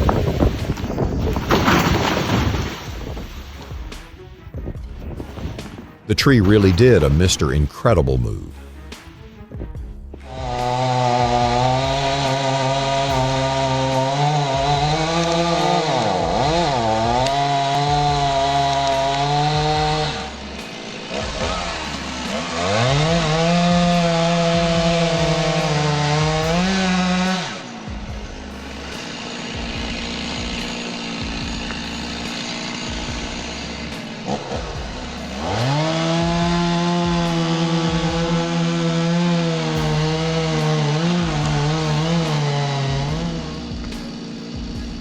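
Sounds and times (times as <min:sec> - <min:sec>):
chainsaw revving: 0:00.0 - 0:04.2, 0:05.2 - 0:07.8, 0:10.1 - 0:45.0.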